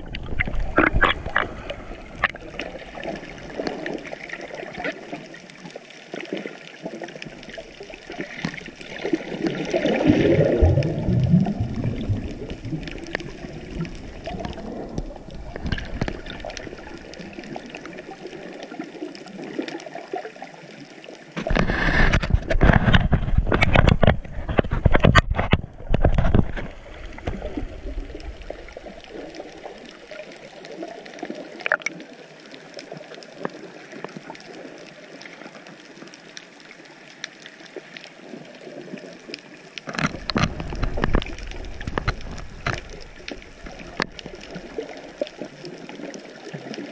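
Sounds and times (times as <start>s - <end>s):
water gurgling and splashing: 0.0s - 46.9s.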